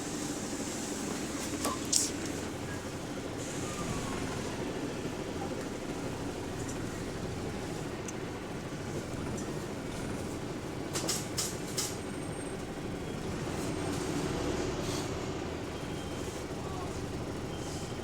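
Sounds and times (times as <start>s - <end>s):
bus engine droning: 0.0s - 18.0s.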